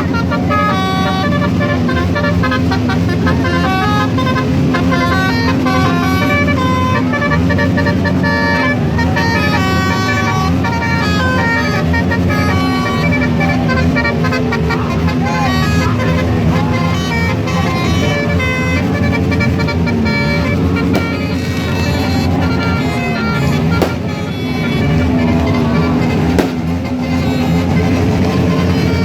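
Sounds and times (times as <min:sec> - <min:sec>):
musical horn playing a tune: 0:00.0 - 0:29.0.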